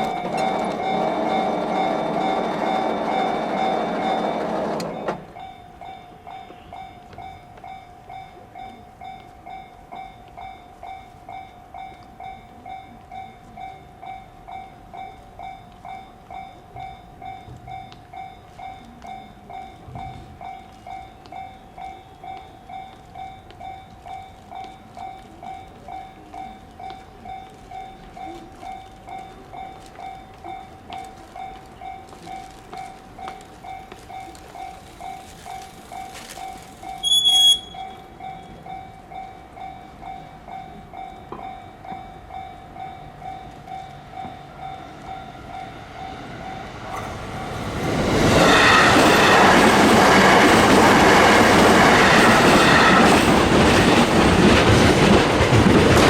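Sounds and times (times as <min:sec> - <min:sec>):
railroad crossing bell dinging: 0:00.0 - 0:56.0
train passing: 0:00.0 - 0:56.0.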